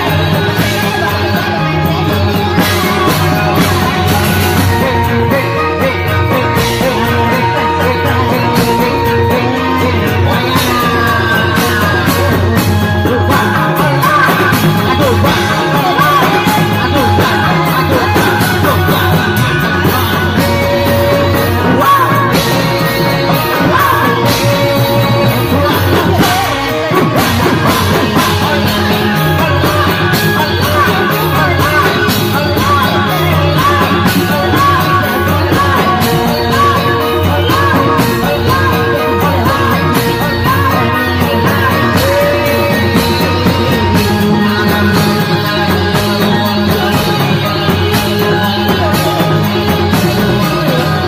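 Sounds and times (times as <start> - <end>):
drums and melodic instruments: 0.0 - 51.0
person singing: 0.0 - 51.0.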